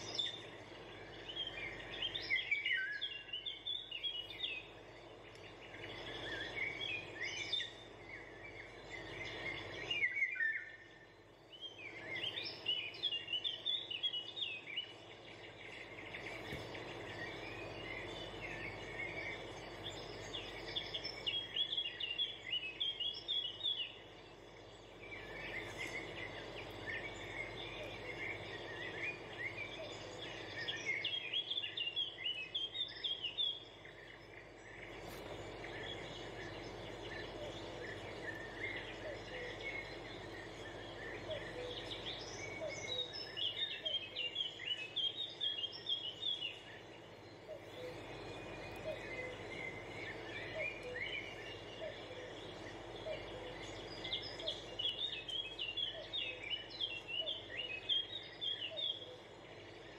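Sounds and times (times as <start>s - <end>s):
birds twittering: 0.0s - 59.9s.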